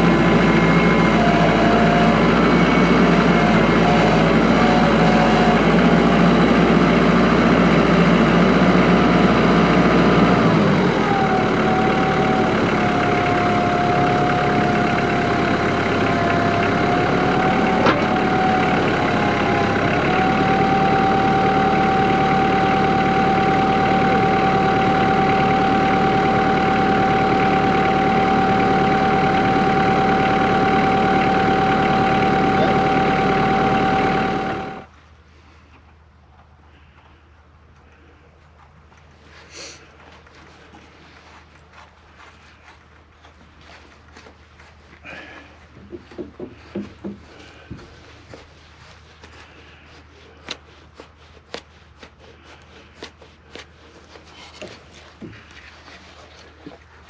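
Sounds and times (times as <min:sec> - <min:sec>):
tractor diesel engine running: 0:00.0 - 0:35.7, 0:39.1 - 0:57.0.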